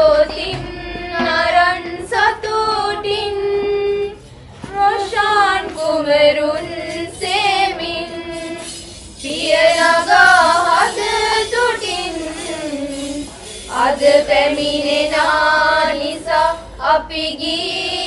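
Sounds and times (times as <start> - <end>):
high voices singing held notes: 0.0 - 18.0.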